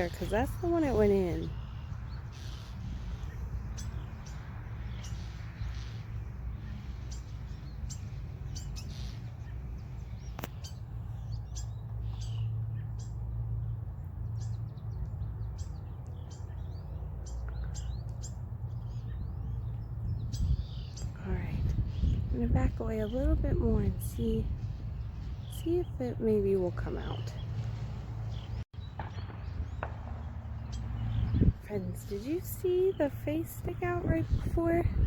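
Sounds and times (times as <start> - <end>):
songbirds chirping in alarm: 0.0 - 35.0.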